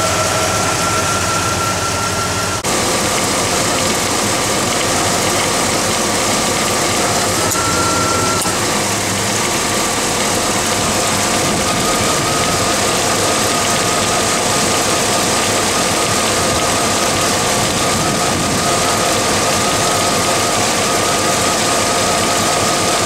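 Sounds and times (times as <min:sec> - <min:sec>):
engine idling: 0:00.0 - 0:23.0
thin steady whine: 0:00.0 - 0:23.0.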